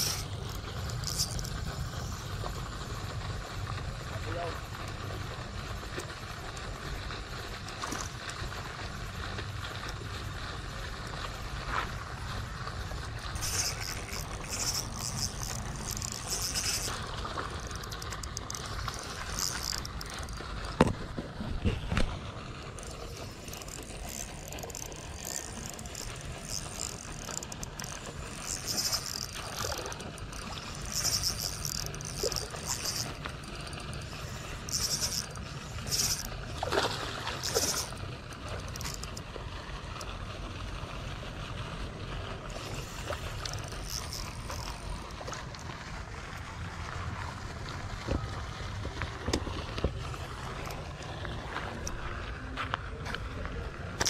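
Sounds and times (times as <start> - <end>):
fishing reel whirring: 0.0 - 54.0.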